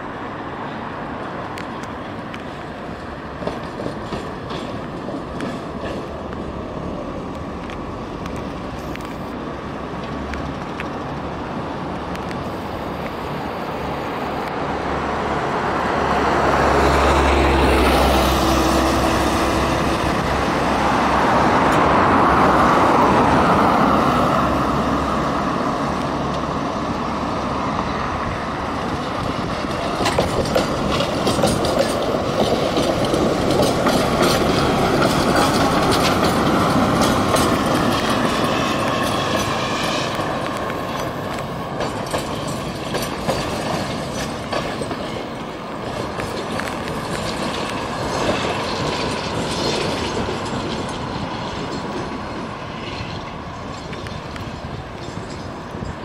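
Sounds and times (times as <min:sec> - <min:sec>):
road traffic noise: 0:00.0 - 0:56.0
tram running on tracks: 0:00.0 - 0:56.0.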